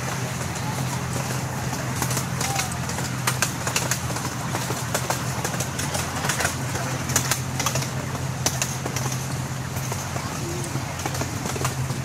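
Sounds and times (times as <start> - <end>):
locomotive drone: 0.0 - 12.0
wheels clacking on track: 0.0 - 12.0.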